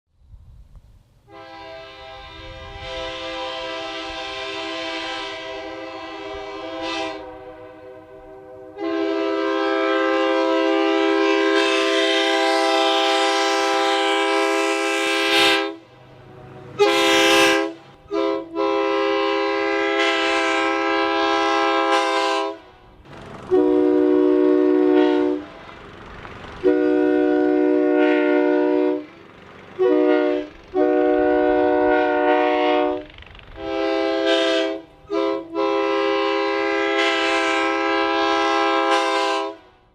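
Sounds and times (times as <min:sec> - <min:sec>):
train horn blasts: 0:01.2 - 0:25.8, 0:26.6 - 0:39.9.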